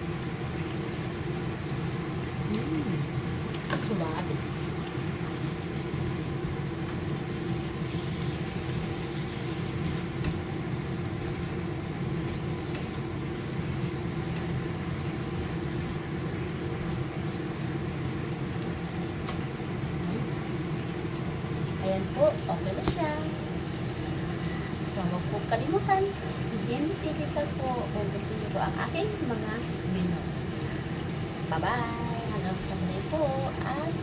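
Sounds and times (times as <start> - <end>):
food sizzling in a frying pan: 0.0 - 34.0
range hood fan humming: 0.0 - 34.0.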